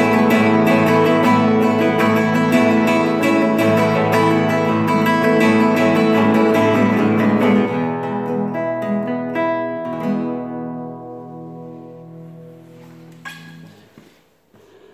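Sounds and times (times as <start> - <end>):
classical guitar strummed and picked: 0.0 - 14.2.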